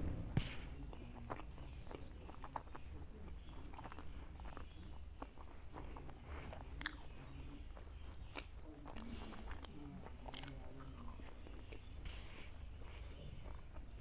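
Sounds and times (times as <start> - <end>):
person chewing: 0.4 - 14.0
wet mouth clicks: 0.6 - 12.6.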